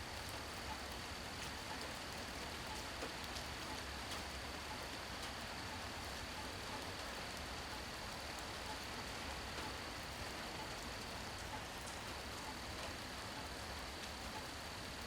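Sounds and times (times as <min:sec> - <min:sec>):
steady rain falling: 0:00.0 - 0:15.0
rain drop ticks: 0:00.2 - 0:08.9, 0:10.6 - 0:15.0.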